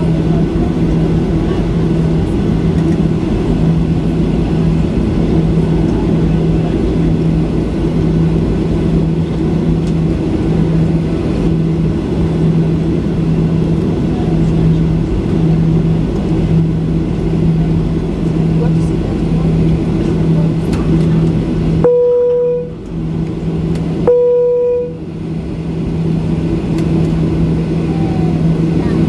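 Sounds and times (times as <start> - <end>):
jet engines rumbling: 0.0 - 29.0
low hum: 0.0 - 29.0.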